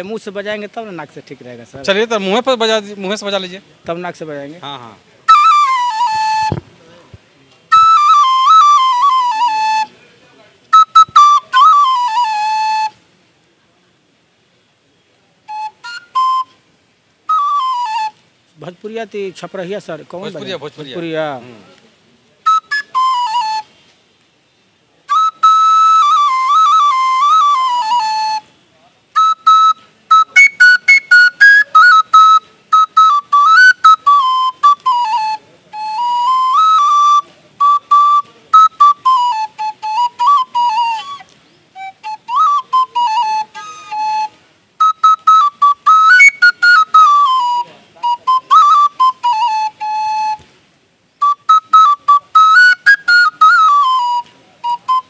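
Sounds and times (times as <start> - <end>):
bamboo flute melody: 4.2 - 13.1, 15.4 - 21.4, 22.3 - 23.9, 24.9 - 55.0.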